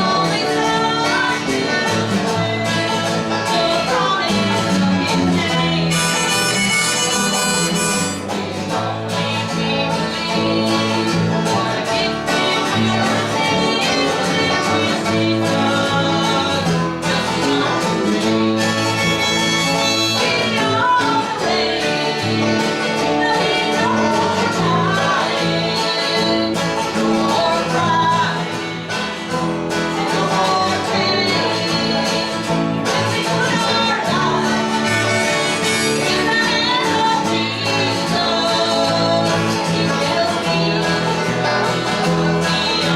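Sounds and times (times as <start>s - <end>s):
live country band playing: 0.0s - 42.9s.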